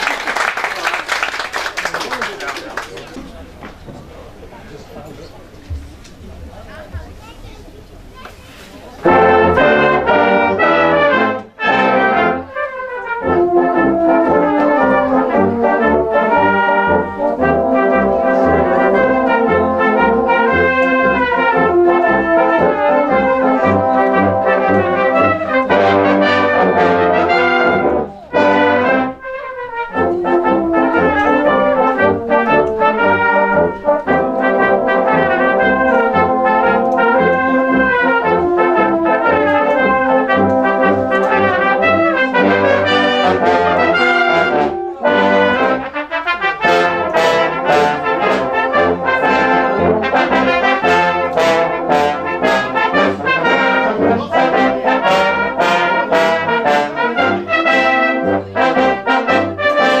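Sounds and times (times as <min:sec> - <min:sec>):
brass band playing: 0:09.0 - 1:00.0.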